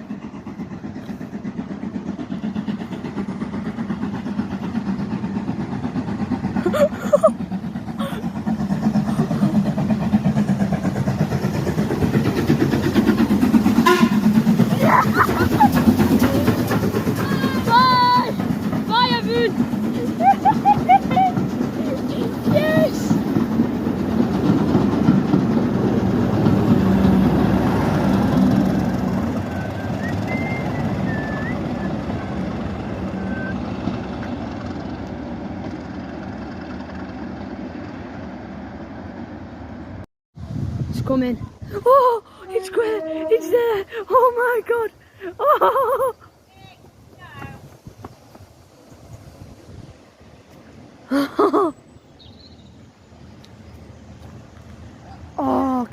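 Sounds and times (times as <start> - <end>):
train diesel engine throbbing: 0.0 - 55.9.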